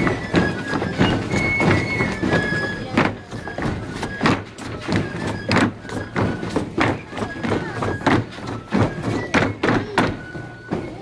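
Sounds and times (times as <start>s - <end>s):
folk music with pipe notes: 0.0s - 11.0s
shoes striking a stage: 0.0s - 11.0s.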